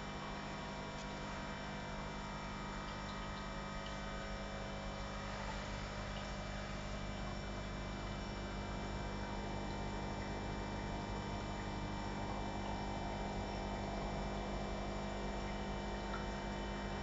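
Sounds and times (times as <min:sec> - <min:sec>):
aquarium equipment humming: 0:00.0 - 0:17.0.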